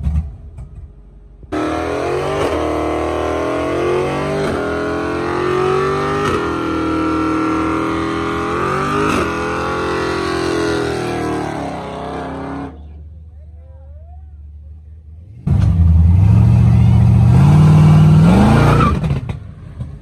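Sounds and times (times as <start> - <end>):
car engine revving: 0.0 - 13.0, 15.2 - 20.0.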